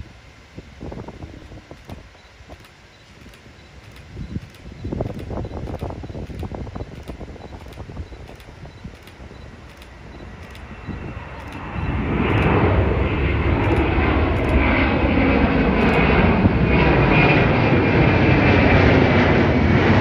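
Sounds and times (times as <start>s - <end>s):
jet engines at takeoff power: 0.0s - 20.0s.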